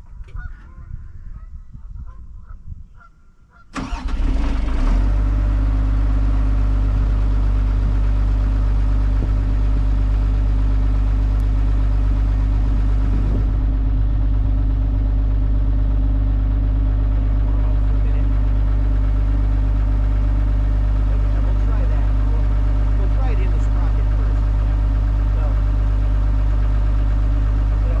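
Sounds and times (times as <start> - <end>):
excavator diesel engine idling: 3.8 - 28.0.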